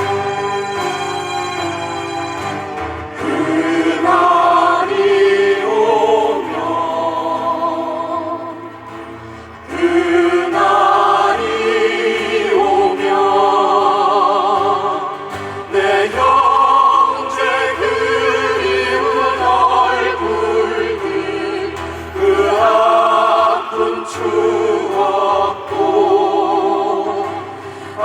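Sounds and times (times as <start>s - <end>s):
choir singing slow song: 0.0s - 28.0s.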